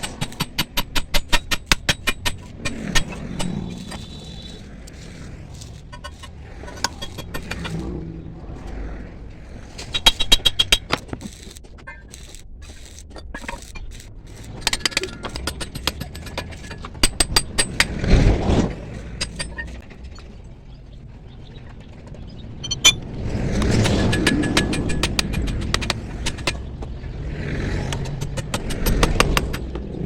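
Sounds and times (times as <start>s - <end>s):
heavy scraping rush: 0.0s - 20.5s, 22.2s - 30.0s
low background rumble: 0.0s - 30.0s.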